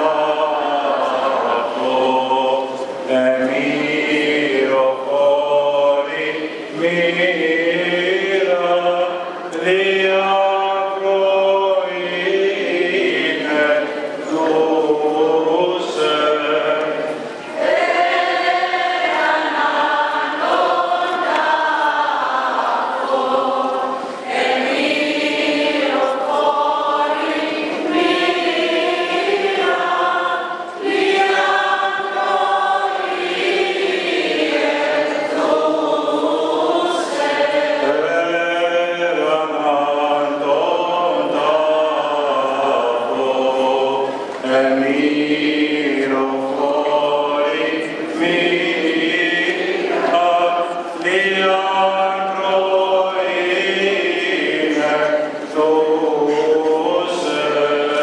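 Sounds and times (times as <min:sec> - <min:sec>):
church choir singing a hymn: 0:00.0 - 0:58.0.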